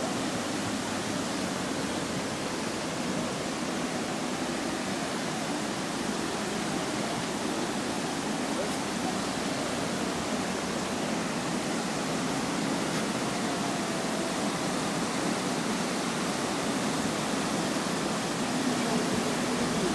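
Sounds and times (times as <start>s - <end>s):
river running over rocks: 0.0s - 19.9s
waterfall rushing: 0.0s - 19.9s.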